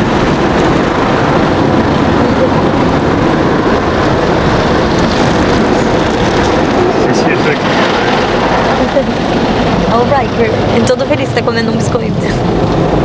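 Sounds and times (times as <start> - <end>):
car wash water spray and machinery: 0.0 - 13.0.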